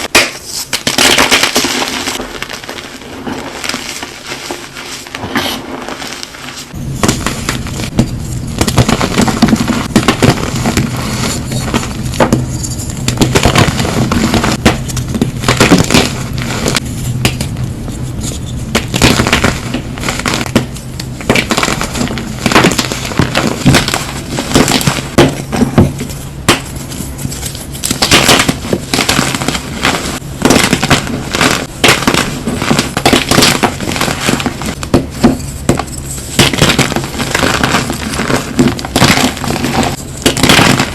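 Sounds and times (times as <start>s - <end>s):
crunchy material being crushed: 0.0s - 40.9s
steady low hum: 0.0s - 40.9s.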